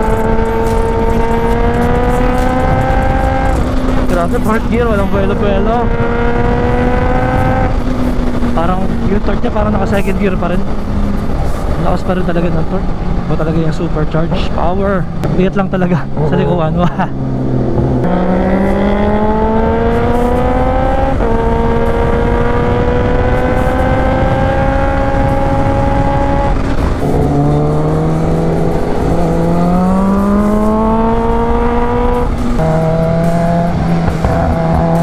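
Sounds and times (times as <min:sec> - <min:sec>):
wind and road noise: 0:00.0 - 0:35.0.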